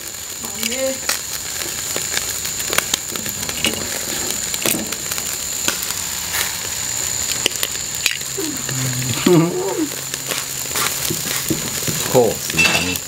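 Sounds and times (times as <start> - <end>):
fire crackling and popping: 0.0 - 13.0
meat sizzling over fire: 0.0 - 13.0.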